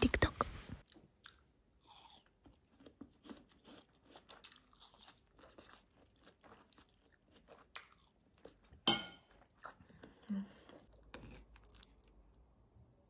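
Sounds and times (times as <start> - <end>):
chewing crisp vegetable: 0.8 - 12.4.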